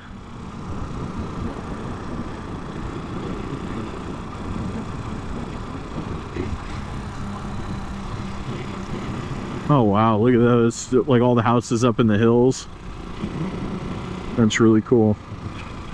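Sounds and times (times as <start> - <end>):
motorcycle engine running: 0.0 - 15.9
road and wind noise: 0.0 - 15.9.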